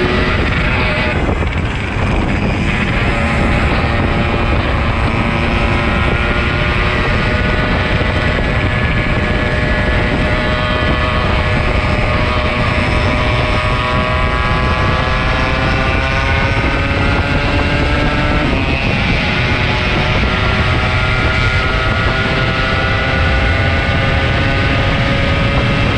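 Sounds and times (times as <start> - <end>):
two-stroke motorcycle engine running: 0.0 - 25.9
wind rumble on microphone: 0.0 - 25.9.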